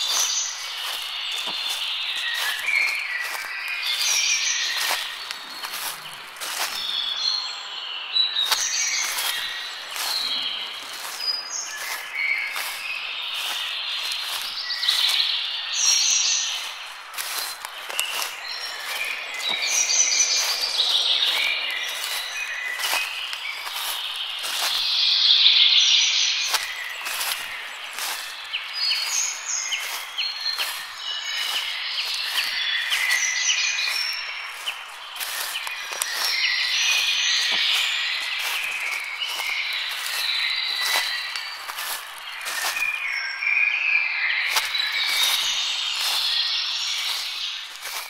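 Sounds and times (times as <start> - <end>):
footsteps on gravel: 0.0 - 7.2, 8.4 - 15.4, 16.0 - 25.2, 26.4 - 43.2, 44.5 - 48.0
birds singing and calling: 0.0 - 48.0.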